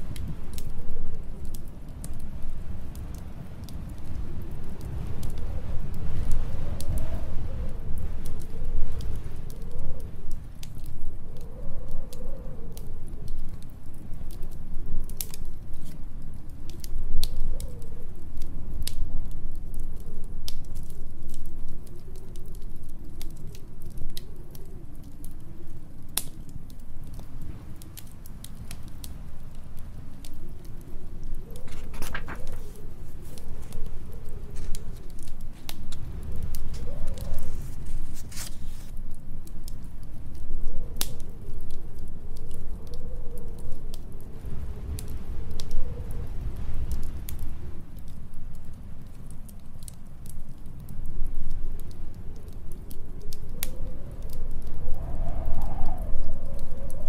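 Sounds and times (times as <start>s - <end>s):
fire crackling and popping: 0.0s - 57.0s
storm wind: 0.0s - 57.0s.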